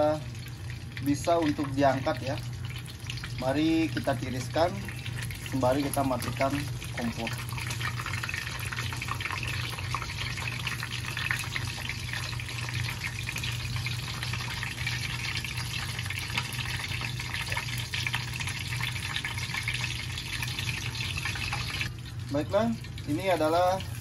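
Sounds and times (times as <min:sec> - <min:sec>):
fish sizzling in hot oil: 0:00.0 - 0:24.0.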